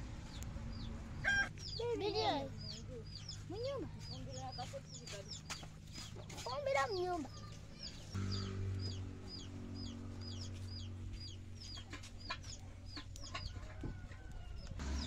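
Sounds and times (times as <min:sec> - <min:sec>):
low steady hum: 0:00.0 - 0:04.6, 0:07.2 - 0:15.0
chicks peeping: 0:00.3 - 0:15.0.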